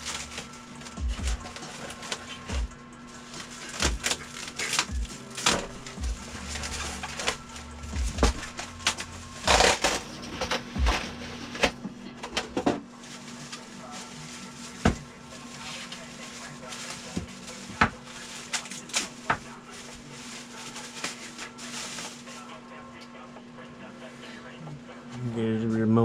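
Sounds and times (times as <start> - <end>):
packaging rustle: 0.0 - 11.8, 13.0 - 22.5.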